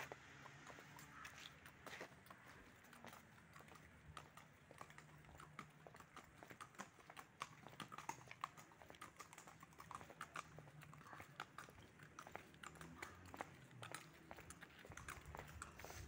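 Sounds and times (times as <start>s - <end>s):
horse hooves on paved road: 0.0s - 16.0s.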